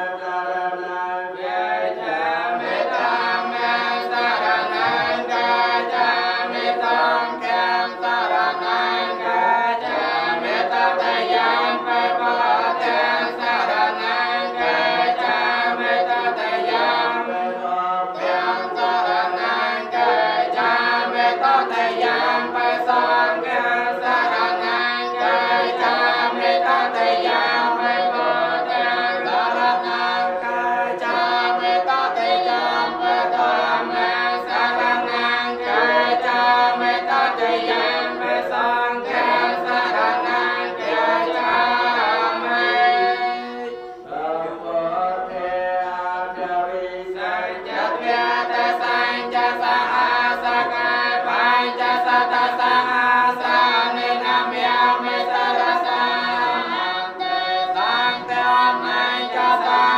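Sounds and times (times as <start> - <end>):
men chanting in unison: 0.0 - 59.9.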